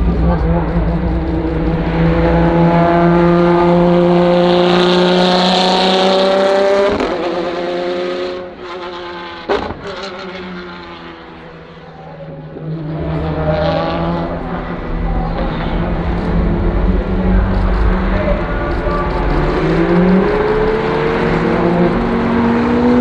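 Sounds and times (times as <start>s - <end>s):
race car accelerating: 0.0s - 23.0s.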